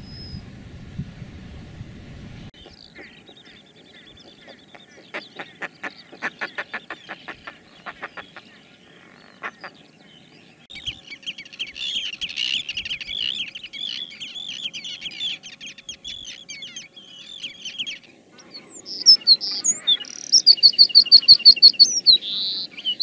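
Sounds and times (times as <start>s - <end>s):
terns' high harsh calls: 2.6s - 9.9s, 10.7s - 23.0s
fulmars cackling: 2.6s - 23.0s.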